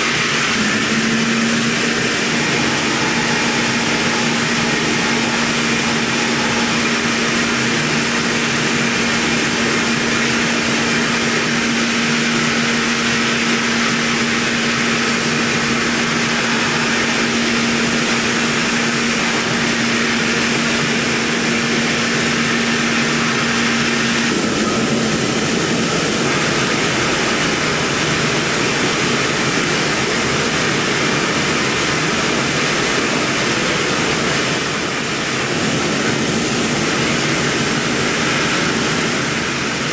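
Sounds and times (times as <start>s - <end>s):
milling machine cutting metal: 0.0s - 39.9s
steady hum: 0.0s - 39.9s.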